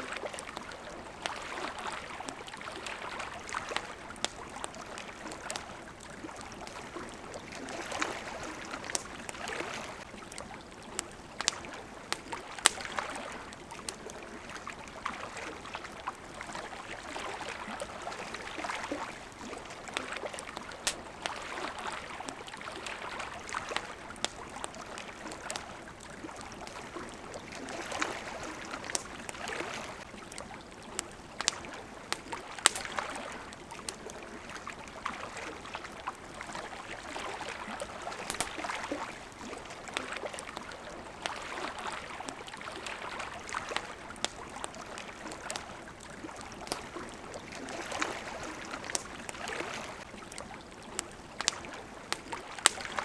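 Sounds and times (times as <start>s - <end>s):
campfire crackling and popping: 0.0s - 53.0s
small waves lapping at shore: 0.0s - 53.0s.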